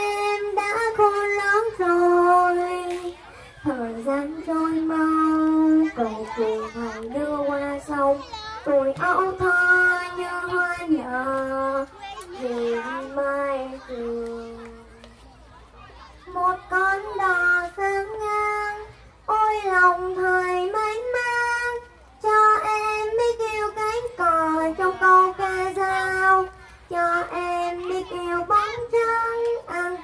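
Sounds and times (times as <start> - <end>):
child singing unaccompanied: 0.0 - 30.0.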